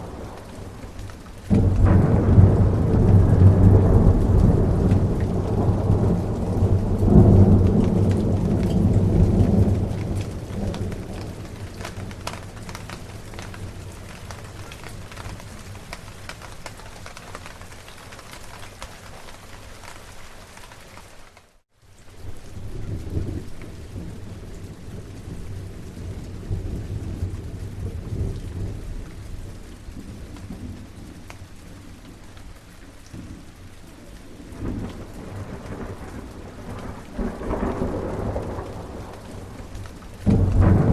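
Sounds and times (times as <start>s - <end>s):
thunder rumbling: 0.0s - 18.1s, 22.5s - 31.3s, 33.2s - 40.9s
steady rain: 0.0s - 40.9s.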